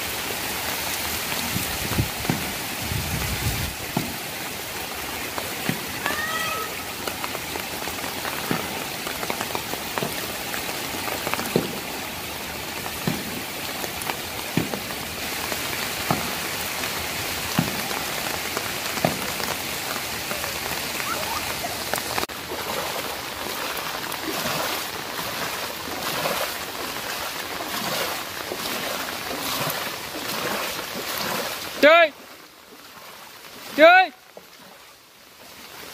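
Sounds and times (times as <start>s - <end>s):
heavy rain on water: 0.0s - 35.9s
soft knocks or splashes: 1.3s - 4.4s, 5.3s - 6.3s, 7.0s - 12.0s, 12.8s - 20.4s, 21.0s - 33.7s.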